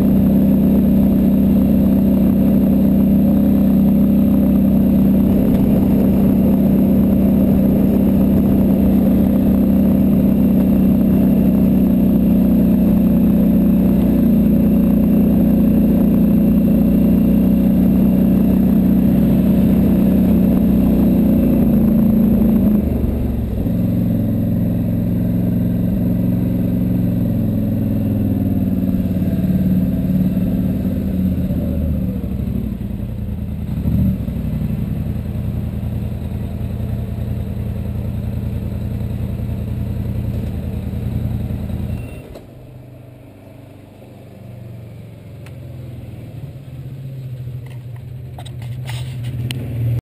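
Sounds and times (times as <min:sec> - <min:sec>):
atv engine idling: 0:00.0 - 0:50.0.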